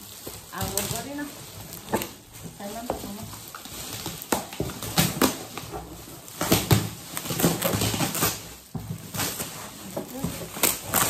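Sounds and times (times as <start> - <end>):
foil wrapping paper crinkling and tearing: 0.0 - 11.0.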